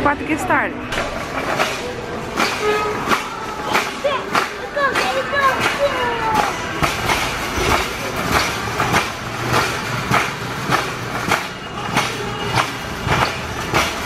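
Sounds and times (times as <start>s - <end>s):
shopping carts rolling and rattling: 0.0s - 14.0s.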